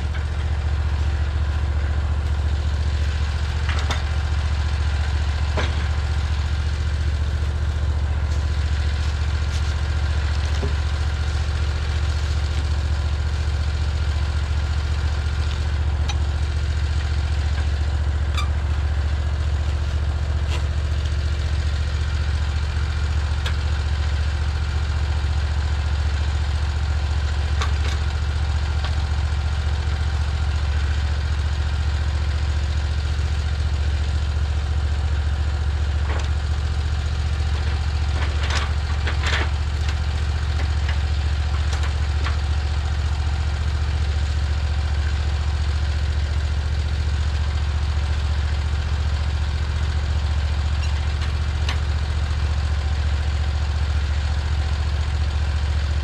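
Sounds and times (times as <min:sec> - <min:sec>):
small gasoline engine idling: 0:00.0 - 0:56.0.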